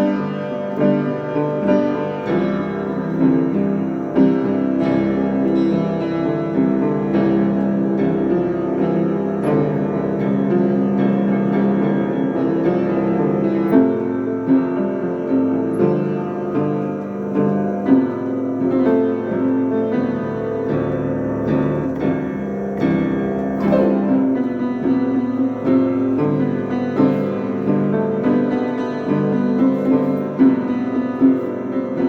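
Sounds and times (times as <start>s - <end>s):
piano playing: 0.0s - 32.0s.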